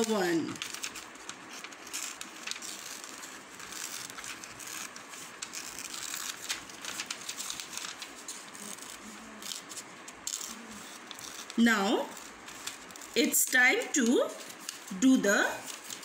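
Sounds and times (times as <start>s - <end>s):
paper crinkling and rustling: 0.0s - 16.0s
scissors snipping paper: 0.0s - 16.0s.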